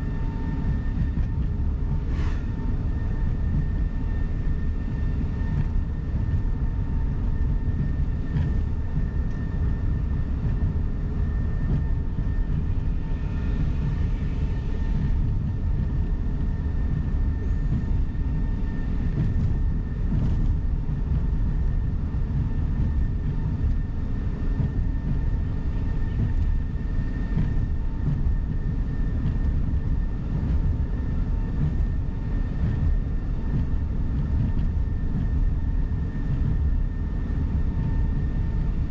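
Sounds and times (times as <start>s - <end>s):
bus engine and road rumble: 0.0s - 38.9s
faint steady whine: 0.0s - 38.9s.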